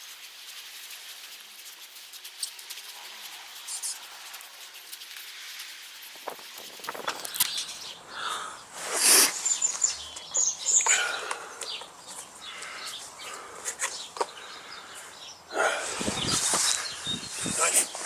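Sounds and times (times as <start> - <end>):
rustling and scraping: 0.0 - 8.1, 8.7 - 14.4, 15.8 - 18.0
small birds chirping: 0.0 - 18.0.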